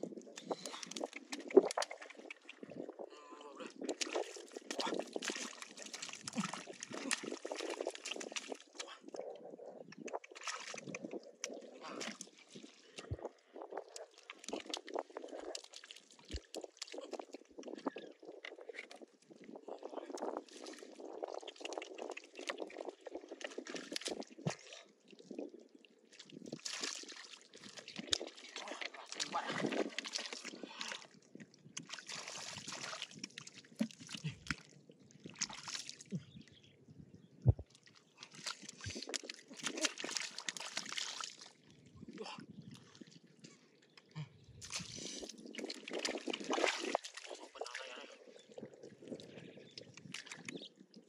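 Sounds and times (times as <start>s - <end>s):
hands squelching through wet mud: 0.0s - 36.4s, 37.6s - 43.1s, 43.9s - 51.0s.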